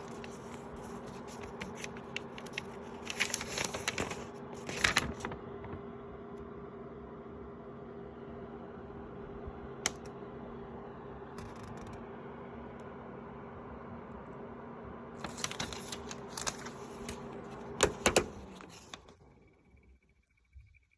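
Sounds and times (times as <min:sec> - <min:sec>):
space heater humming: 0:00.0 - 0:20.5.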